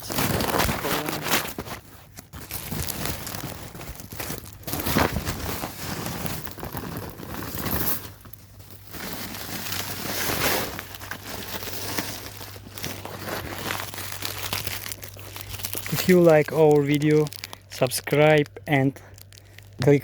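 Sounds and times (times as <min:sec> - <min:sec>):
low steady hum: 0:00.0 - 0:20.0
plastic bag crinkling: 0:00.0 - 0:20.0.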